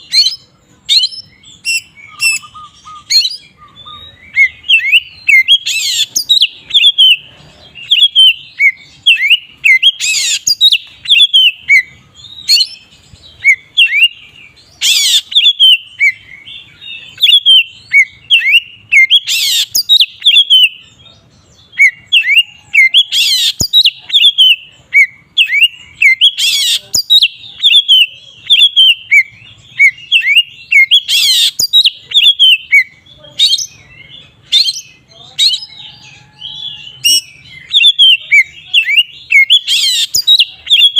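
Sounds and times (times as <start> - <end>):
magpie-robin song: 0.0 - 40.9.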